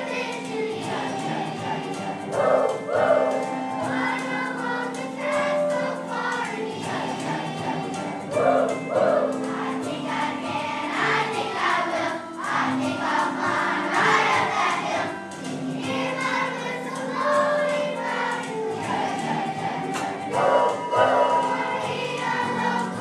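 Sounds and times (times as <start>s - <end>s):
children singing together: 0.0s - 23.0s
musical accompaniment: 0.0s - 23.0s.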